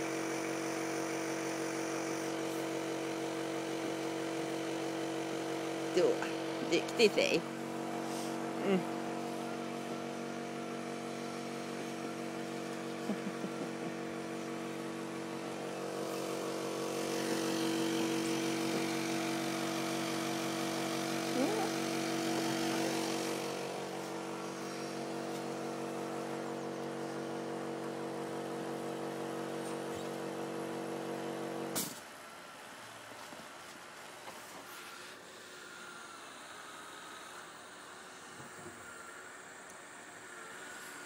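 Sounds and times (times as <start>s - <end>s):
motor humming: 0.0s - 31.8s, 34.6s - 41.0s.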